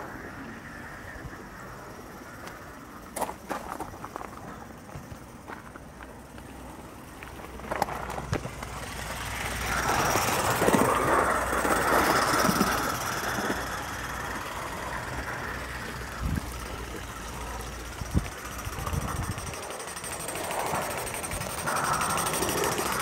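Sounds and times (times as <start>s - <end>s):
steam locomotive exhaust: 0.0s - 23.0s
wheels on rails: 0.0s - 23.0s.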